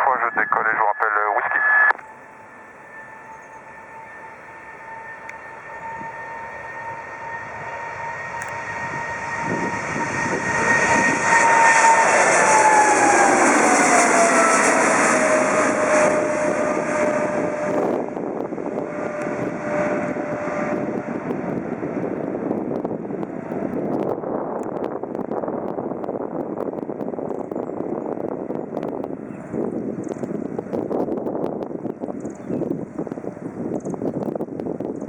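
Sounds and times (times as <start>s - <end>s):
jet engines passing by: 0.0s - 35.0s.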